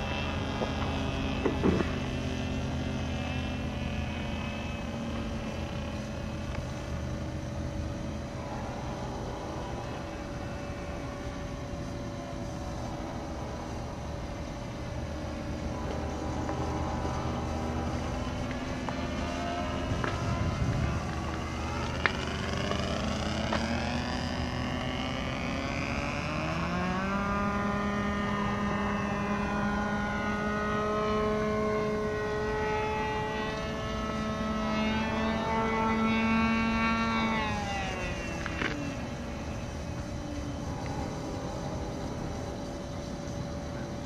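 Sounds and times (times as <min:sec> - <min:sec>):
model plane motor droning: 0:00.0 - 0:44.0.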